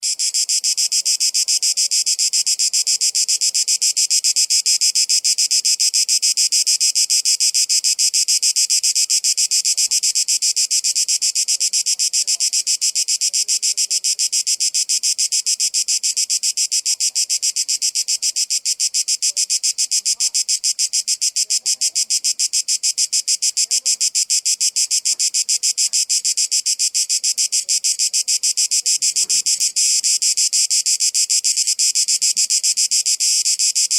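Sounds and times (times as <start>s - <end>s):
cicadas buzzing: 0.0s - 33.9s.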